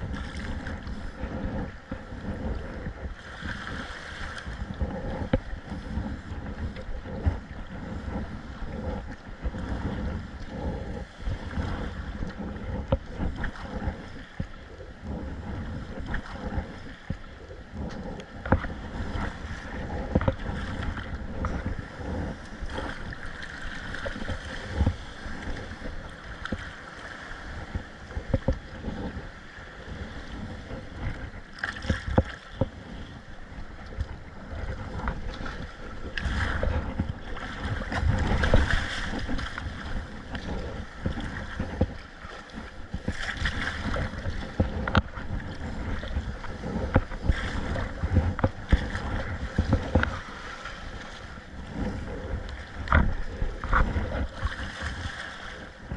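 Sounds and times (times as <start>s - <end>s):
paddle strokes: 0.0s - 55.9s
water splashing around hull: 0.0s - 55.9s
wind buffeting microphone: 0.0s - 55.9s.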